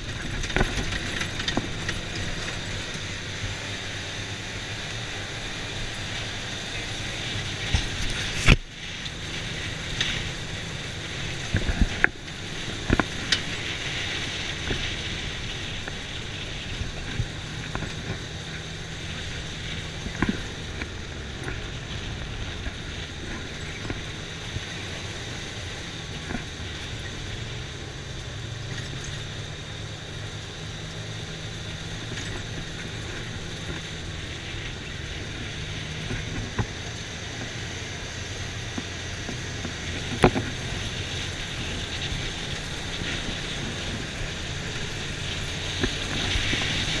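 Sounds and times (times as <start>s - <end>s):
off-road vehicle engine hum: 0.0s - 47.0s
wind and ride noise: 0.0s - 47.0s.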